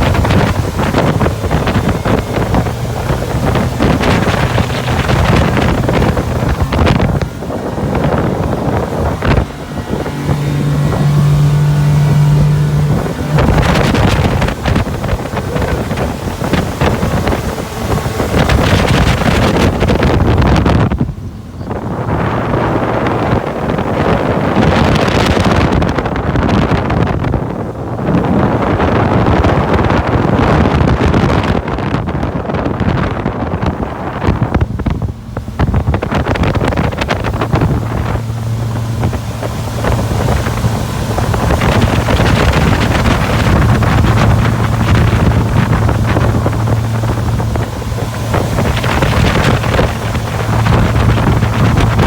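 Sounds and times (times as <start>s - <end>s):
boat engine humming: 0.0s - 52.0s
water rushing along hull: 0.0s - 52.0s
wind buffeting microphone: 0.0s - 52.0s.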